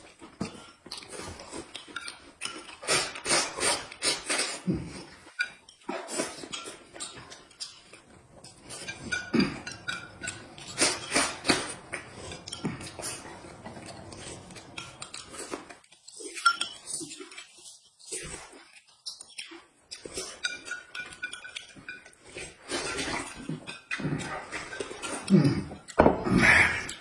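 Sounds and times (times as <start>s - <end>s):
slurping and chewing: 0.0s - 27.0s
utensils clinking on dishes: 0.1s - 17.5s, 19.4s - 27.0s.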